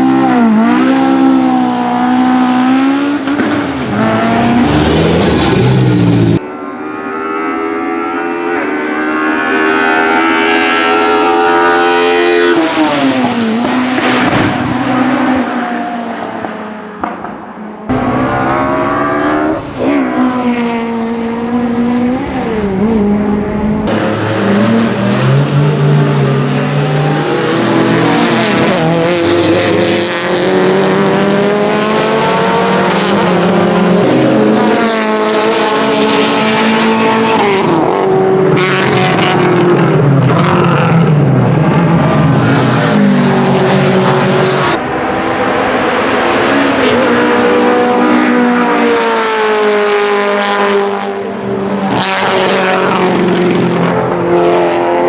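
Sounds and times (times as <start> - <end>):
racing car engines accelerating: 0.0 - 55.0.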